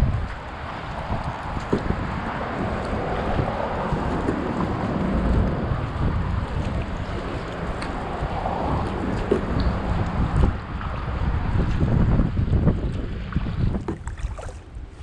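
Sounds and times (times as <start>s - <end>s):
paddle splashing water: 0.0s - 15.0s
wind buffeting microphone: 0.0s - 15.0s.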